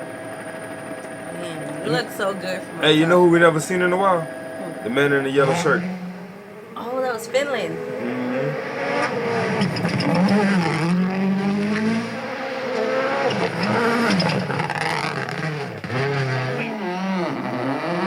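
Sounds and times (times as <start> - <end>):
rally car engine revving: 2.7 - 7.1, 7.7 - 18.0.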